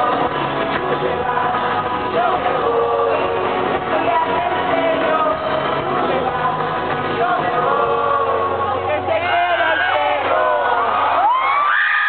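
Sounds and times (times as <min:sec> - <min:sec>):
woman singing: 0:00.0 - 0:09.7
muffled live pop band: 0:00.0 - 0:12.0.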